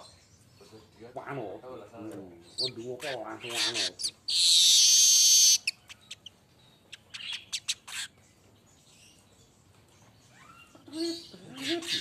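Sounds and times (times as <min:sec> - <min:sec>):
bird chirps: 0:02.3 - 0:12.0.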